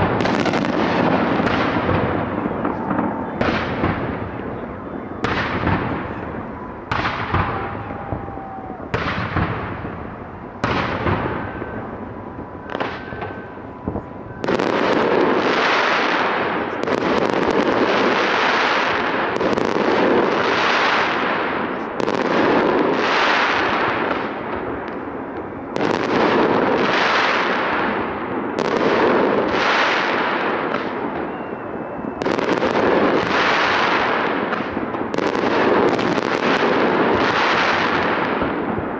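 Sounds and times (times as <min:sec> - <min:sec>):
fireworks booming: 0:00.0 - 0:38.9
fireworks crackling: 0:00.0 - 0:38.9.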